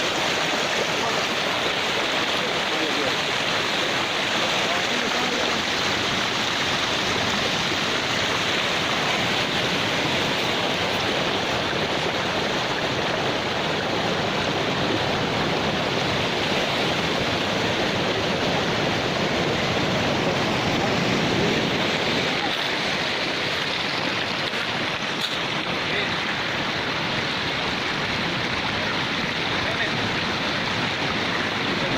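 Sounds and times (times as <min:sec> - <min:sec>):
rushing water: 0:00.0 - 0:31.9.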